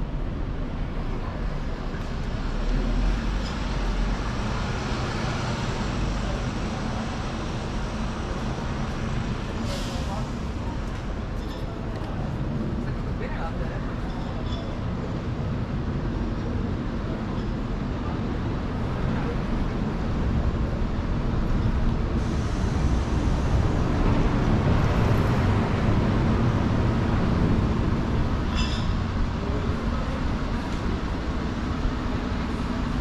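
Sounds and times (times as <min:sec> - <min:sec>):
heavy vehicle rumbling past: 0:00.0 - 0:13.2, 0:18.1 - 0:33.0.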